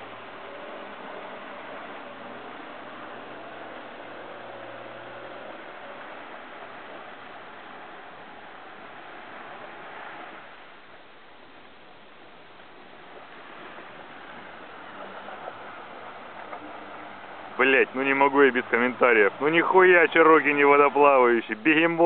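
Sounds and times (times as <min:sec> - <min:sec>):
water rushing around vehicle: 0:00.0 - 0:22.0.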